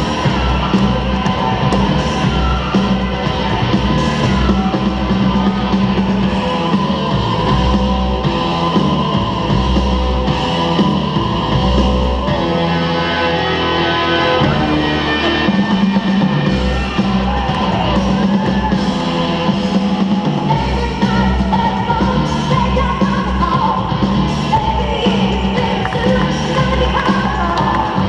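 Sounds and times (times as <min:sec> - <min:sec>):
guitar: 0:00.0 - 0:28.0
heavy bass line: 0:00.0 - 0:28.0
loud rock music: 0:00.0 - 0:28.0.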